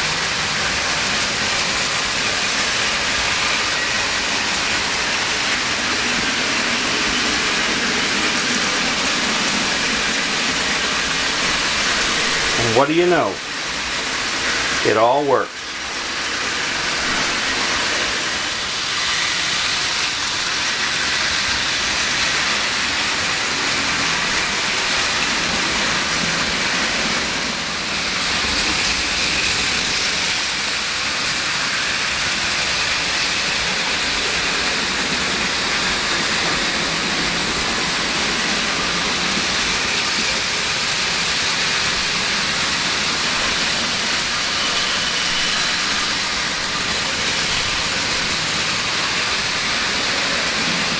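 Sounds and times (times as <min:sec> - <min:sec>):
model trains whirring on rails: 0:00.0 - 0:50.9.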